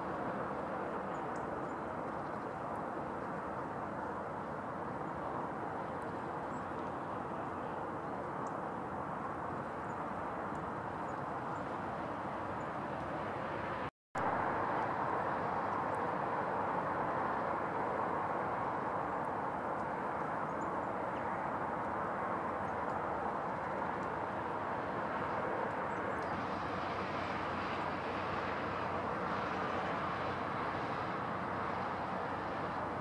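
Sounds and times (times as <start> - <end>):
distant vehicle rumbling hiss: 0.0 - 33.0.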